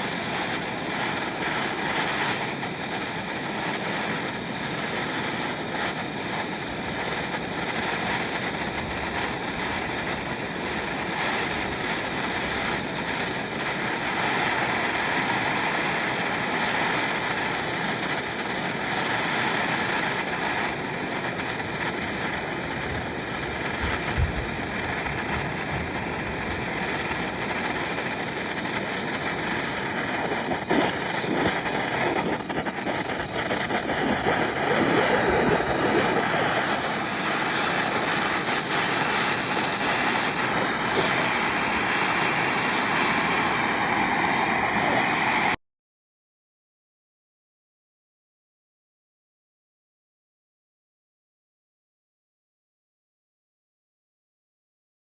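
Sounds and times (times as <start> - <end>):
gas torch flame hissing: 0.0 - 45.6.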